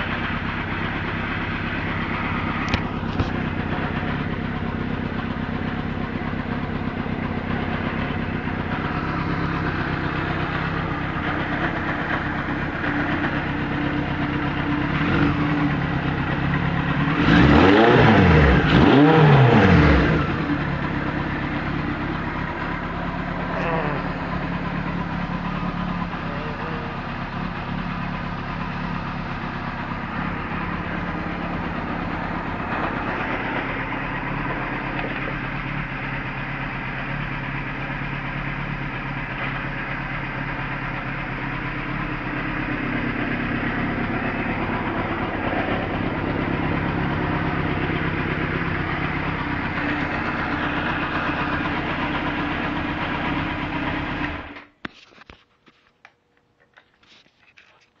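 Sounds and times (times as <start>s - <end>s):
motorcycle engine running: 0.0s - 54.8s.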